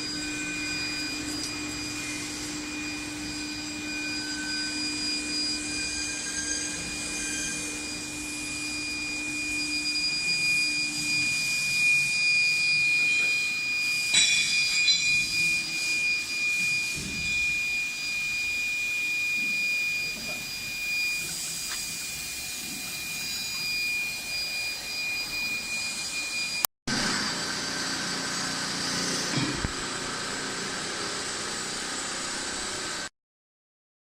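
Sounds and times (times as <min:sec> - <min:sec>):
machine whine with high tone: 0:00.0 - 0:33.1.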